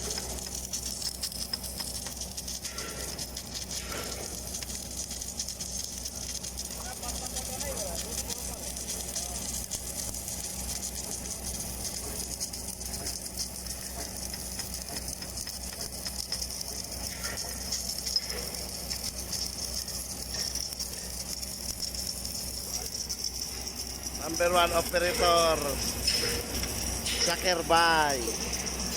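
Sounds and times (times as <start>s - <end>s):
welding arc crackling sizzle: 0.0s - 28.9s.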